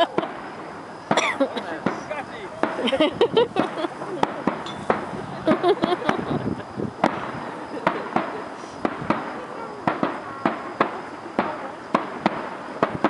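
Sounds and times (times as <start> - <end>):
distant firework bangs: 0.0 - 13.0.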